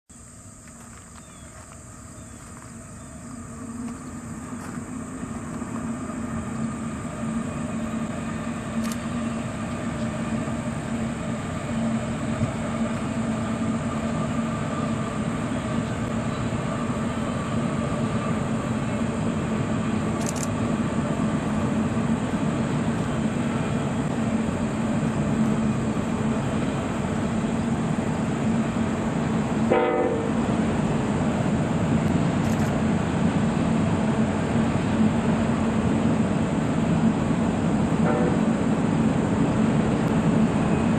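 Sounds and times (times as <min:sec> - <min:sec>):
diesel locomotive drone: 0:00.1 - 0:40.9.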